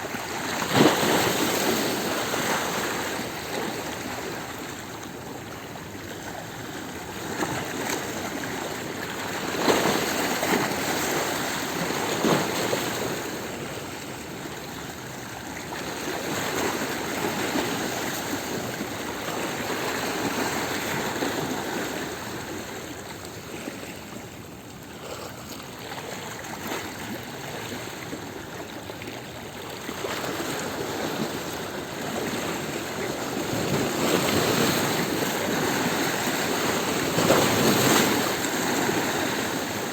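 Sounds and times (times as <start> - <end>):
sea waves on stony shore: 0.0 - 5.0, 5.8 - 24.2, 25.8 - 39.9.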